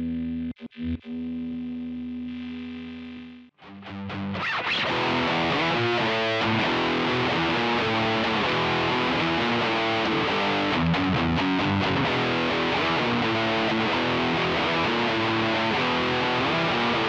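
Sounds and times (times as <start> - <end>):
distorted electric guitar riff: 0.0 - 17.0.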